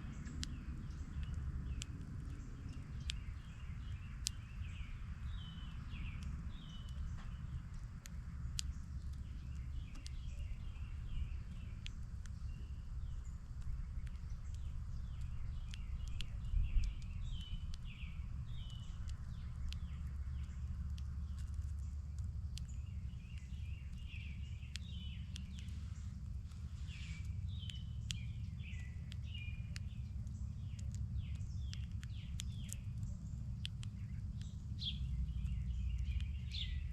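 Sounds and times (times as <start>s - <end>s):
small birds chirping: 0.0s - 36.9s
steady low rumble: 0.0s - 36.9s
sharp clicks: 0.2s - 36.9s.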